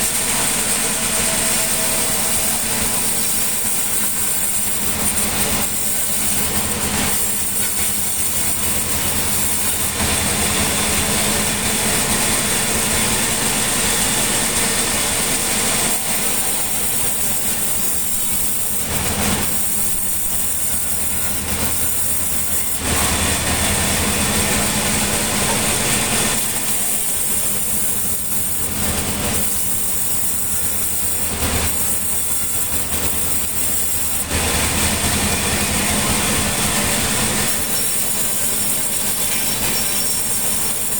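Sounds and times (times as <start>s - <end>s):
high machine whine: 0.0s - 40.9s
saw cutting timber: 0.0s - 40.9s.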